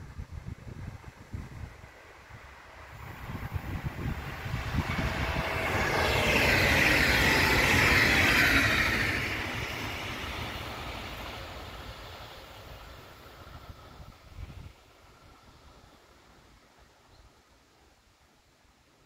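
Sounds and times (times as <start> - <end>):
train passing: 0.1 - 17.0.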